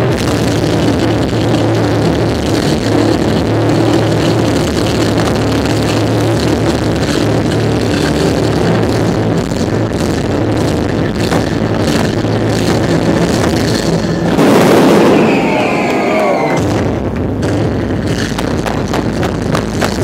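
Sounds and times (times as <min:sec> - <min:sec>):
firework bangs and cracks: 0:00.0 - 0:20.0.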